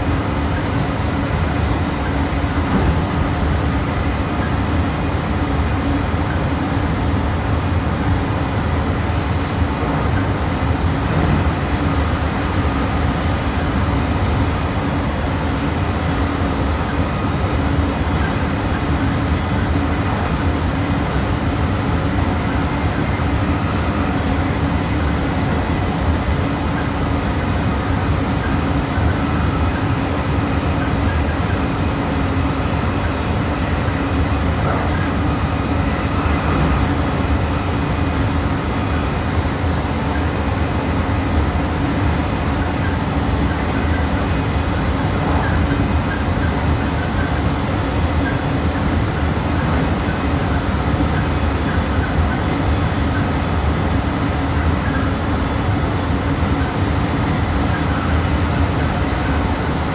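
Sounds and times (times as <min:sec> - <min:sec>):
steady train hum: 0:00.0 - 0:59.9
train wheels rumbling on rail: 0:00.0 - 0:59.9.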